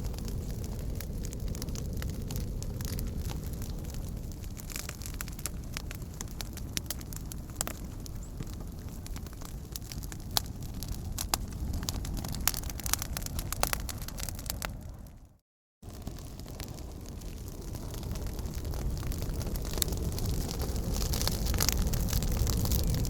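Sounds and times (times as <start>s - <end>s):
campfire crackling and popping: 0.0s - 23.0s
low rumble of flames: 0.0s - 23.0s.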